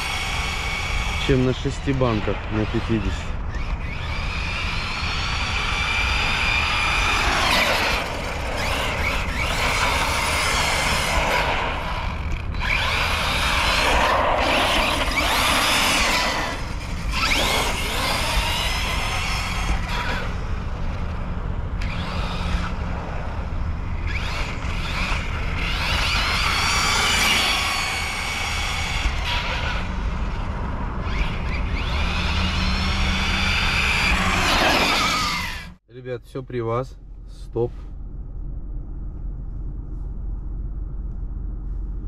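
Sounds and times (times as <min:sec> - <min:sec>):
electric motor whining: 0:00.0 - 0:35.8.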